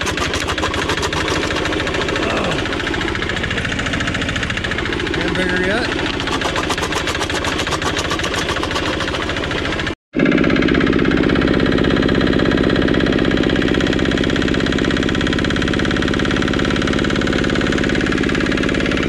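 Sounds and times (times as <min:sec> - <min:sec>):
diesel engine chugging: 0:00.0 - 0:19.0.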